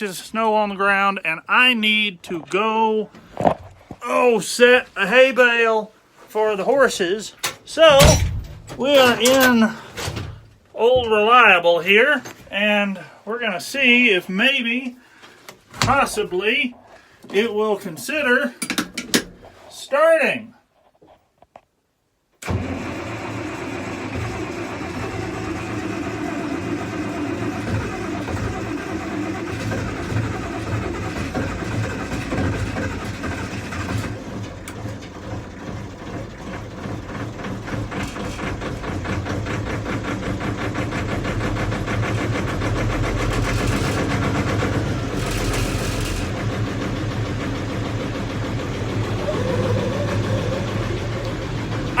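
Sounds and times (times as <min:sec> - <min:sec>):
tractor diesel engine starting: 0:06.4 - 0:19.7, 0:22.4 - 0:52.0.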